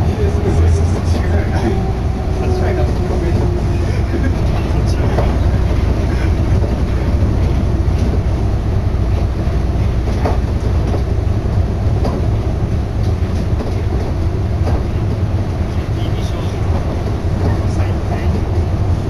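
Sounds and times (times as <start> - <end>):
monorail car rumble: 0.0 - 19.0.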